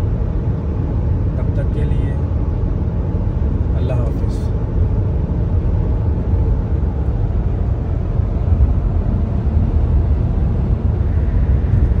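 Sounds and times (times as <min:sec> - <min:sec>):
car tyres and engine rumbling: 0:00.0 - 0:12.0.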